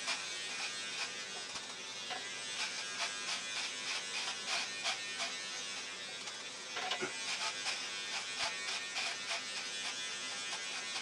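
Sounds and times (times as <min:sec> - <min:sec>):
electric beard trimmer buzzing: 0:00.0 - 0:11.0.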